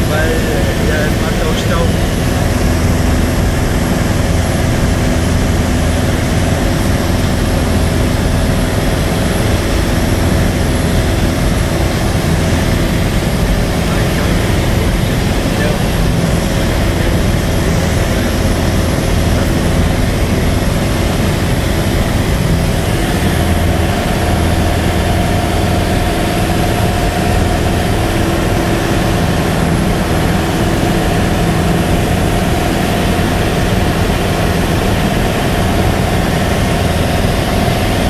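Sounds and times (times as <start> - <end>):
light aircraft engine droning: 0.0 - 38.0.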